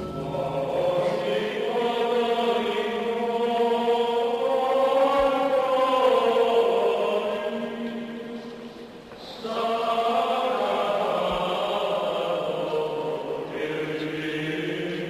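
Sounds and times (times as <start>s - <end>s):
slow choral singing: 0.0s - 15.0s.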